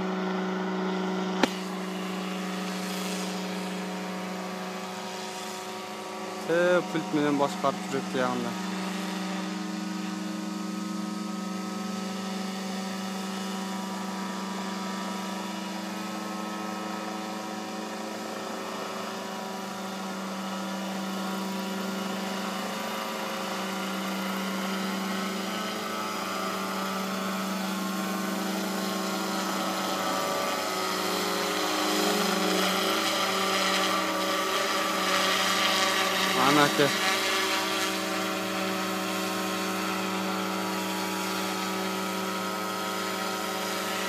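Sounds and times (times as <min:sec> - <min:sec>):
model helicopter droning: 0:00.0 - 0:44.0.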